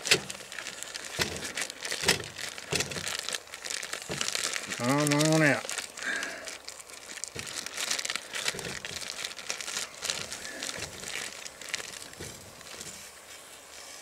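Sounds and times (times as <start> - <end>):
plastic package crinkling: 0.0 - 13.8.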